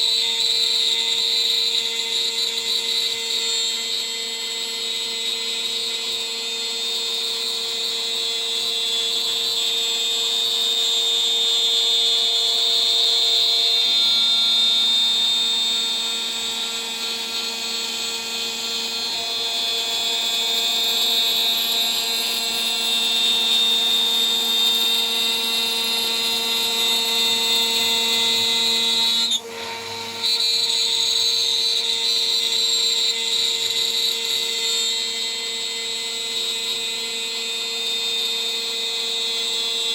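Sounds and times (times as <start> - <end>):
router spindle high-pitched whine: 0.0 - 39.9.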